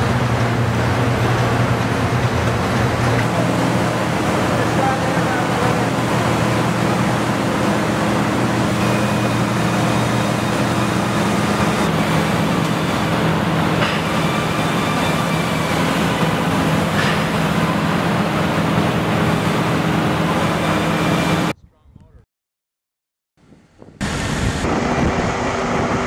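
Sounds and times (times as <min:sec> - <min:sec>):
machinery hum: 0:00.0 - 0:21.5.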